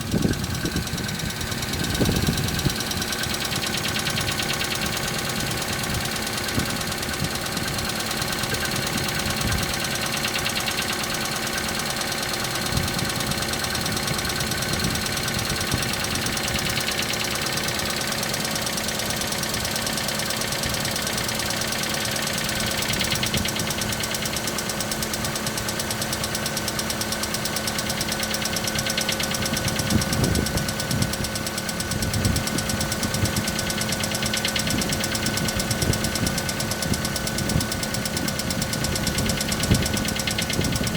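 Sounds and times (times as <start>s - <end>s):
car engine idling with rattling knock: 0.0s - 40.9s.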